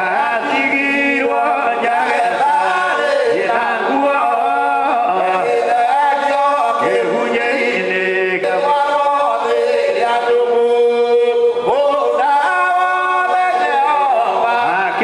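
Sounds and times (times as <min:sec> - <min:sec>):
men singing a hymn unaccompanied: 0:00.0 - 0:15.0.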